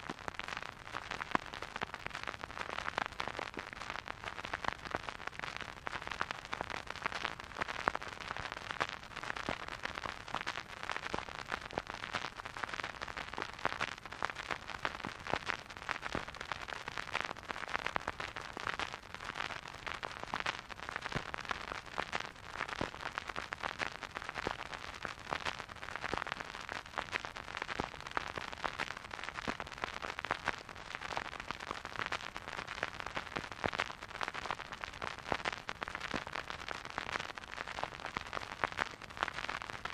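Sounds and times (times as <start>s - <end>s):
vinyl record crackle: 0.0s - 39.9s.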